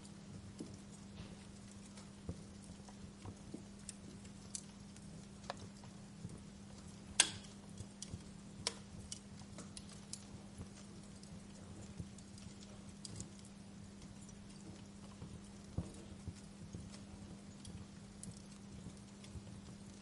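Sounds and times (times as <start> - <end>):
faint low hum: 0.0 - 20.0
fire crackling and popping: 0.0 - 20.0.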